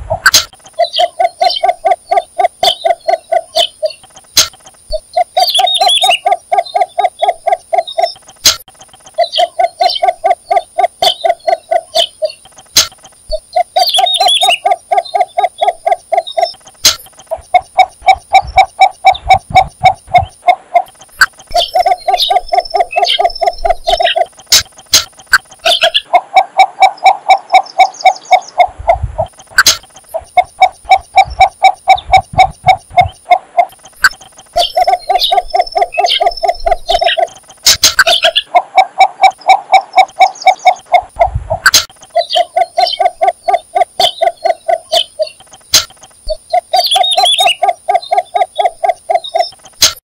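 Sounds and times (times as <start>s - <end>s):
bittern calling repeated notes: 0.0s - 50.0s.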